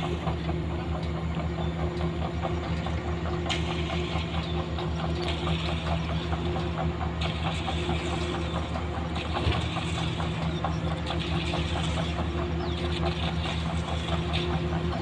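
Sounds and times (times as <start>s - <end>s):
construction vehicle engine running: 0.0s - 15.0s.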